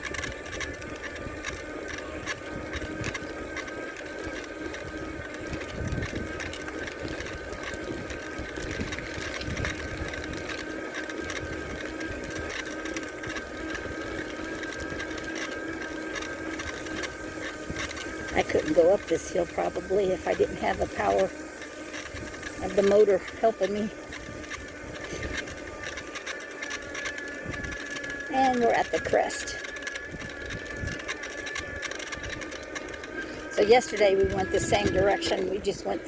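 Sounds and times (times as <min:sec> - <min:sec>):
electric bike motor whine: 0:00.0 - 0:36.0.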